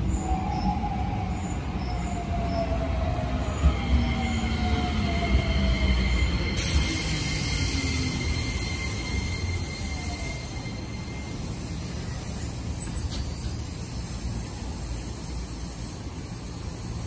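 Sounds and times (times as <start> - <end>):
high squeal: 0.0 - 14.2
train wheels rumbling on rails: 0.0 - 17.0.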